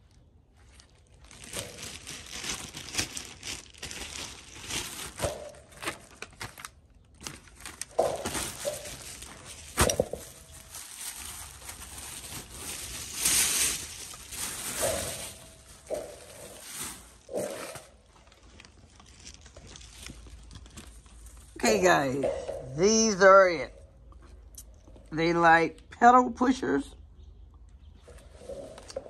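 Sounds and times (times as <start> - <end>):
plastic bag crinkling: 0.0 - 23.6.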